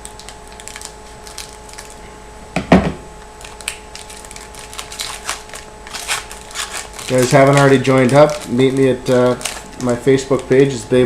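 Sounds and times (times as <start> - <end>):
card packs clicking and rustling: 0.1 - 2.0, 3.4 - 10.8.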